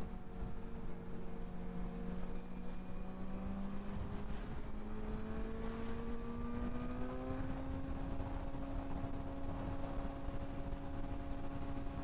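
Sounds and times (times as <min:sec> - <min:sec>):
low wind: 0:00.0 - 0:12.0
motorcycle engine at highway speed: 0:00.0 - 0:12.0
road rumble: 0:00.0 - 0:12.0.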